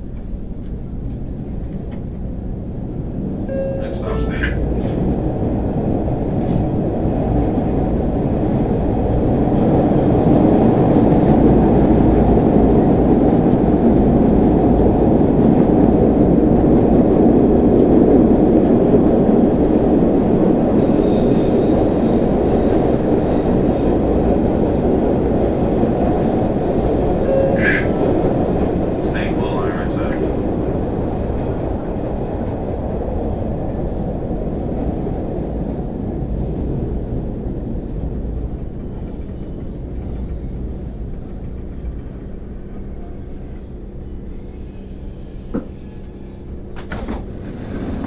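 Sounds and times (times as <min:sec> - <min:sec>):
subway train roaring on rails: 0:00.0 - 0:48.0.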